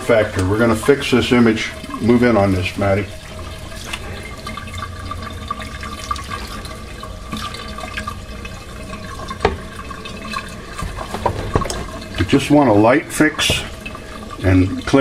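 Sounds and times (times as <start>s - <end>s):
liquid pouring into a tray: 0.0s - 15.0s.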